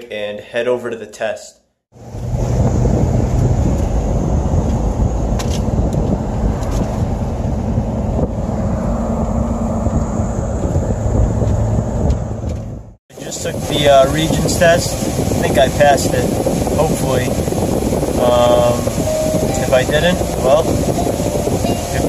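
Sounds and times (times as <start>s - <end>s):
engine and tyre rumble: 1.9s - 22.0s.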